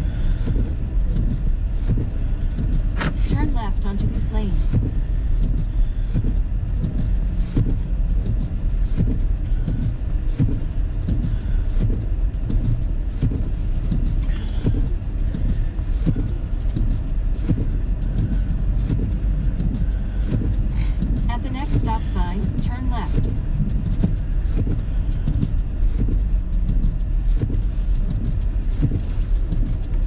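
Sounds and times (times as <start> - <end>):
car tyres and engine rumbling: 0.0 - 30.0.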